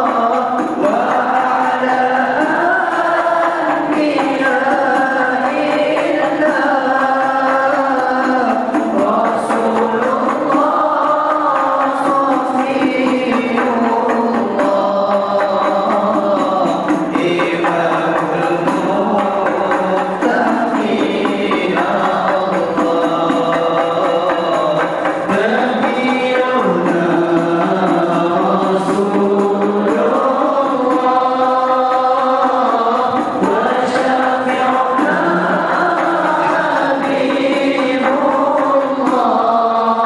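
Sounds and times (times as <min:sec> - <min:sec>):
person chanting devotional song: 0:00.0 - 0:40.0.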